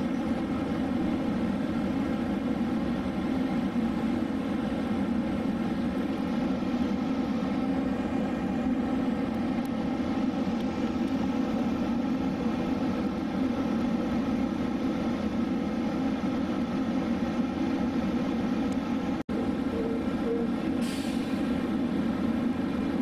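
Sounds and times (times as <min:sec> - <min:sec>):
electric train rumble and hum: 0:00.0 - 0:23.0.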